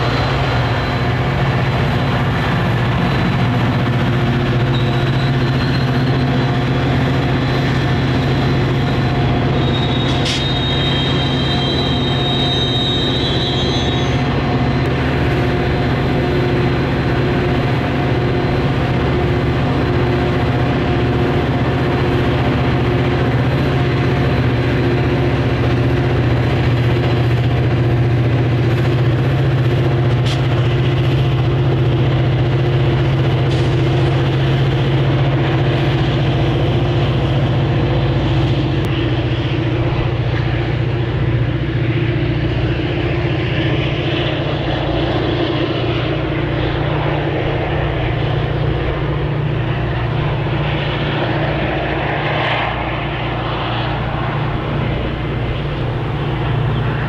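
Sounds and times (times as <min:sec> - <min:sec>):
diesel locomotive droning: 0:00.0 - 0:57.0.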